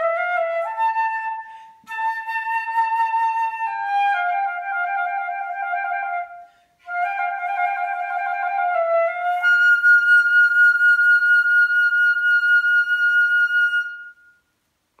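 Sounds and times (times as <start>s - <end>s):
solo flute playing: 0.0s - 14.6s.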